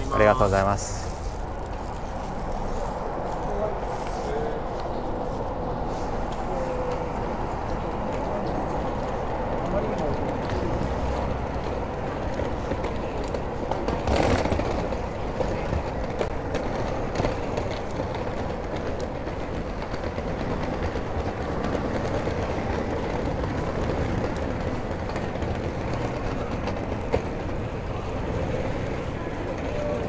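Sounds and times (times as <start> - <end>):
low traffic rumble: 0.0 - 30.0.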